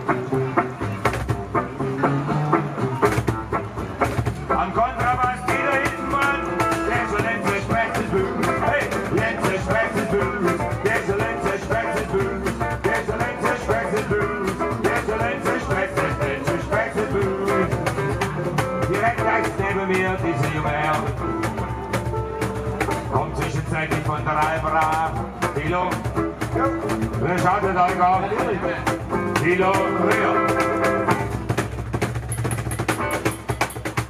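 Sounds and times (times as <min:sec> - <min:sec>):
acoustic guitar: 0:00.0 - 0:34.0
cajon drum beat: 0:00.0 - 0:34.0
double bass: 0:00.0 - 0:34.0.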